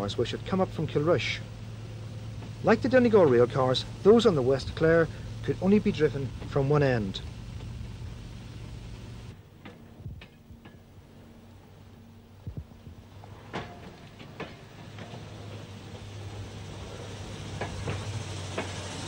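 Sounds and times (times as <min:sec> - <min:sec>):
diesel rail car engine hum: 0:00.0 - 0:19.0.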